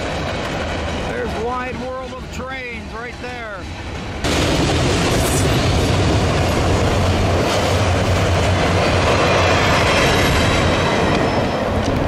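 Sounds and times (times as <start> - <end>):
train cars rumbling past: 0.0 - 12.0
wheel and rail noise: 0.0 - 12.0.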